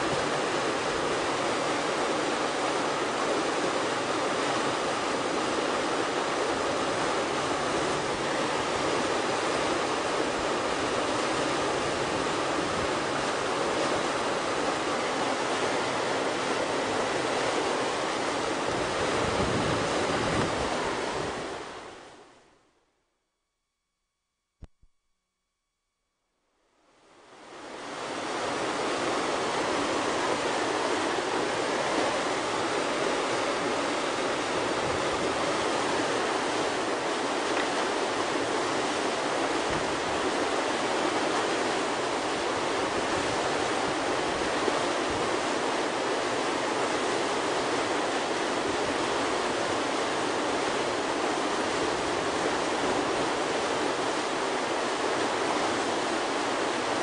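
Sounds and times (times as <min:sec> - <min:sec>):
river rapid roaring: 0:00.0 - 0:22.3, 0:27.1 - 0:57.0.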